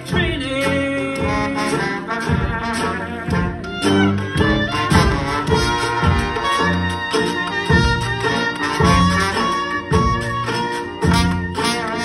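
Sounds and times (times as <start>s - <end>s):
jazz band playing: 0.0s - 12.0s
tuba bass line: 0.0s - 12.0s.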